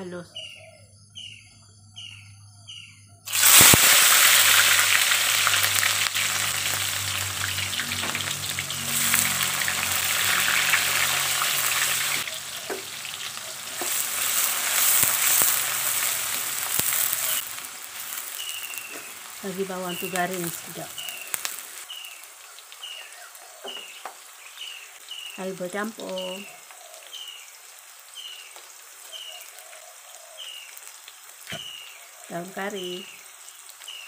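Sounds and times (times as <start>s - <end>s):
loud sizzle of frying in oil: 3.3s - 34.0s.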